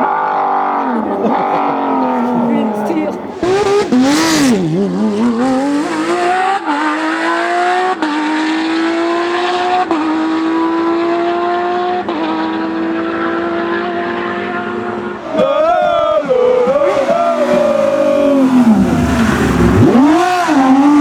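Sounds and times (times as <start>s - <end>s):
racing car engine accelerating: 0.0s - 21.0s.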